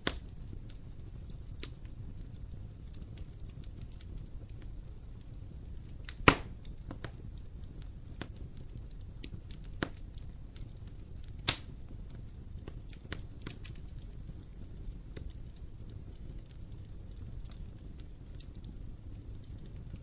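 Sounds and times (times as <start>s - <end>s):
fire crackling clicks: 0.0s - 20.0s
fire rumbling: 0.0s - 20.0s
loud fire pops: 0.0s - 20.0s.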